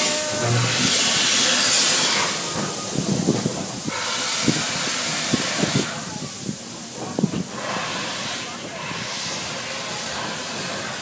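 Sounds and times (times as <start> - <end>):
roller coaster cars rattling on track: 0.0 - 11.0
wind hissing over microphone: 0.0 - 11.0.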